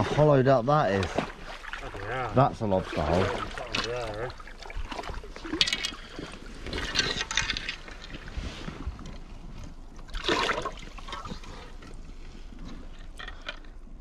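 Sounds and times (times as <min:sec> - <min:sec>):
seawater sloshing and splashing: 0:00.0 - 0:12.5.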